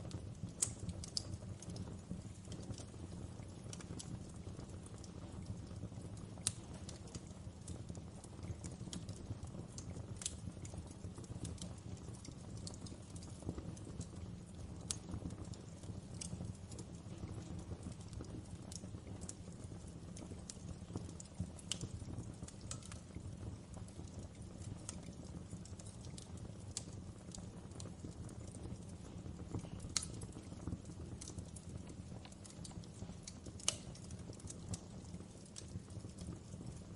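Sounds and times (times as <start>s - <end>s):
fire crackling and popping: 0.0s - 36.9s
fire rumbling: 0.0s - 36.9s.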